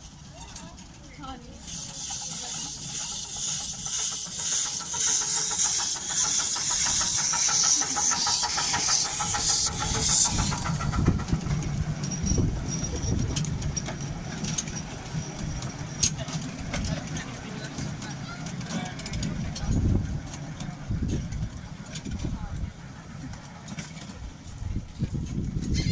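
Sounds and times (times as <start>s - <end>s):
steam locomotive chuffing hiss: 0.0s - 25.2s.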